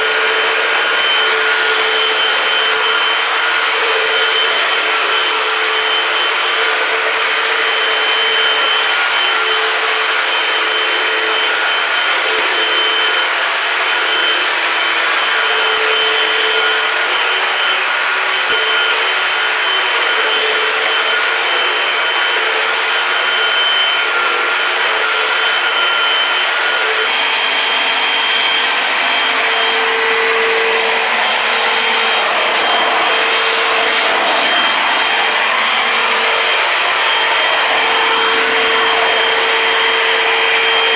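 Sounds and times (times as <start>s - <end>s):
upright vacuum cleaner running: 0.0s - 40.9s.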